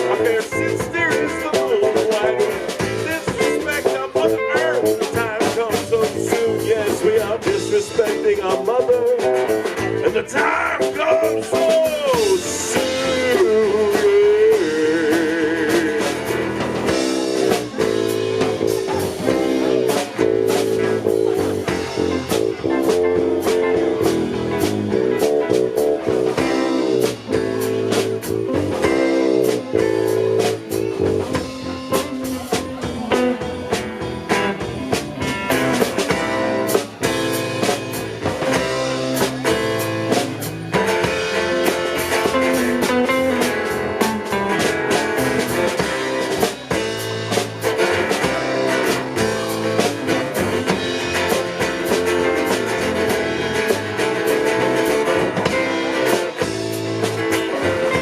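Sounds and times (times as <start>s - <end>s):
guitar: 0.0s - 58.0s
live band playing: 0.0s - 58.0s
steady drum beat: 0.0s - 58.0s.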